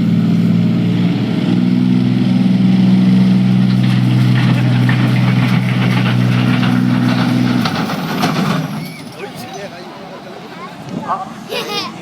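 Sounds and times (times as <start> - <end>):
tractor engine running hard: 0.0 - 11.5.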